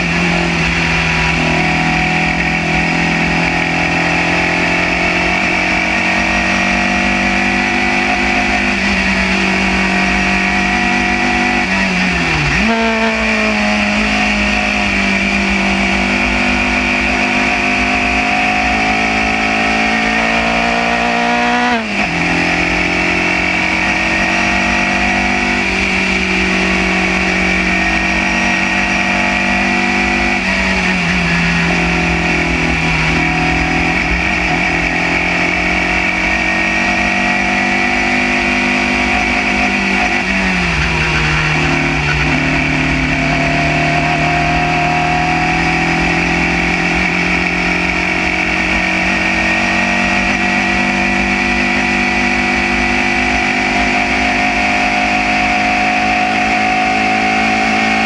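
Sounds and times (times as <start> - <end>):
racing car engine at speed: 0.0 - 58.0.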